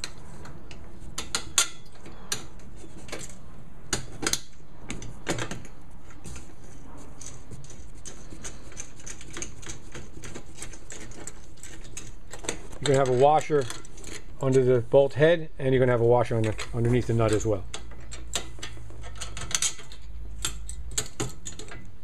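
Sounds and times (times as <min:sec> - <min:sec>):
metal bolts clicking: 0:00.0 - 0:05.8, 0:07.2 - 0:14.6, 0:16.4 - 0:21.9.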